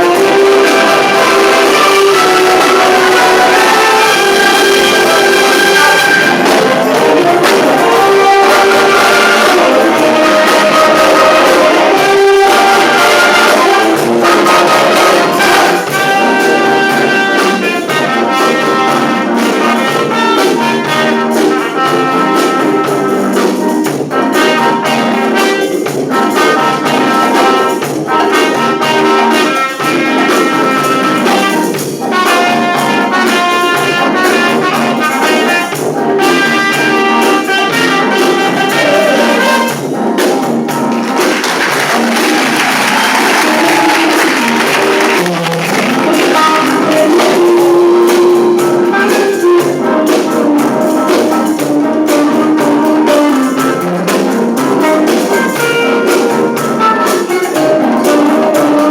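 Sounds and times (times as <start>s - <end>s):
percussion beat: 0.0s - 58.9s
trumpets and trombones: 0.0s - 58.9s.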